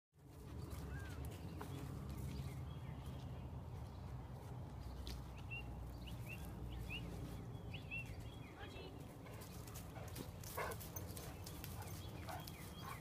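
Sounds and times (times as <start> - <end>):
faint footsteps clicking: 0.2 - 13.0.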